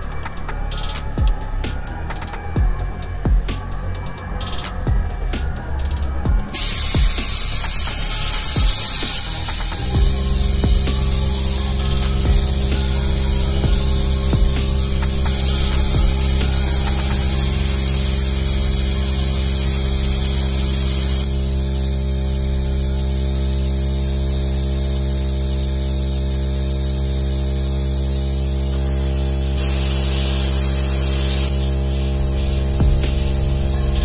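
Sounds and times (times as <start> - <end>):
air hissing from vacuum bleeder: 0.0 - 34.0
loud steady hum: 0.0 - 34.0.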